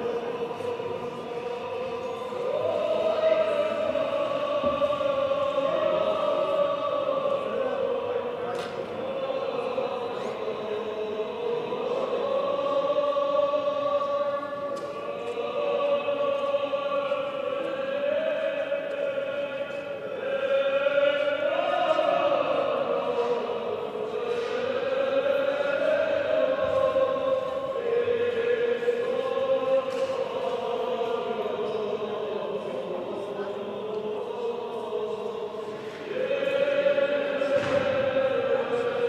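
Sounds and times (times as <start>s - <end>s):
choir chanting: 0.0s - 39.0s.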